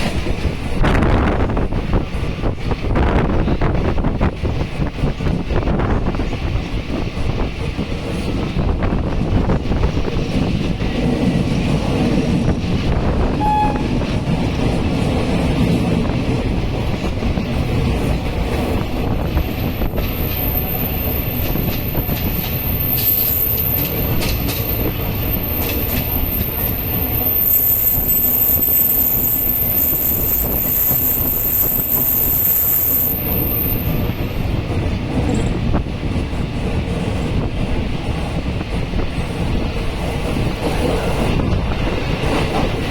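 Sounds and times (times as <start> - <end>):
train rumbling on track: 0.0 - 42.9.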